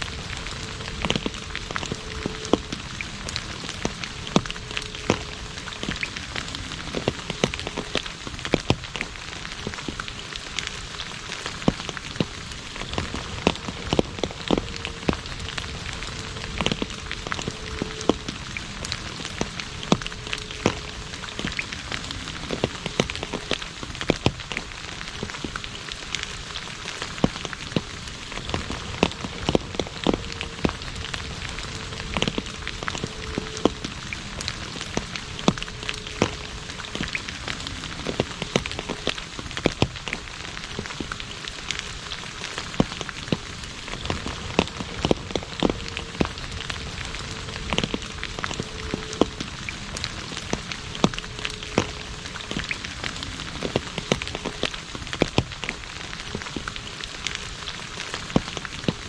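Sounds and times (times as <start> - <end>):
rain on asphalt road: 0.0 - 59.0
raindrop splashes: 0.0 - 59.0.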